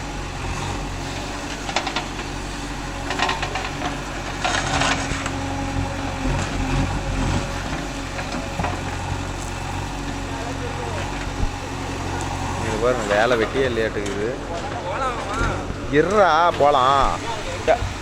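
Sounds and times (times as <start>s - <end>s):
diesel engine running: 0.0s - 18.0s
soil and stones crunching: 0.5s - 18.0s.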